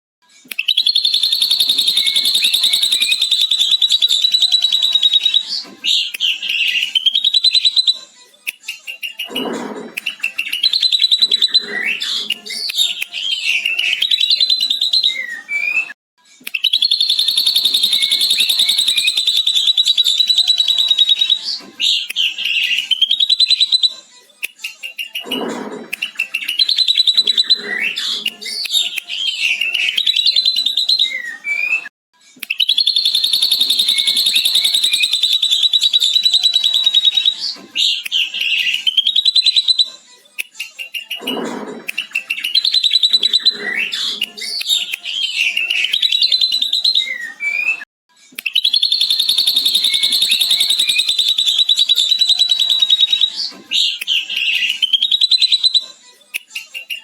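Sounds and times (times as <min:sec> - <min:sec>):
bird whistling phrases: 0:00.6 - 0:08.0, 0:10.0 - 0:15.9, 0:16.6 - 0:24.0, 0:26.1 - 0:31.9, 0:32.5 - 0:39.9, 0:42.0 - 0:47.8, 0:48.4 - 0:55.9
fast chattering bird trill: 0:00.6 - 0:08.0, 0:08.8 - 0:15.7, 0:16.6 - 0:24.0, 0:24.8 - 0:31.3, 0:32.5 - 0:39.9, 0:40.8 - 0:47.6, 0:48.5 - 0:55.8.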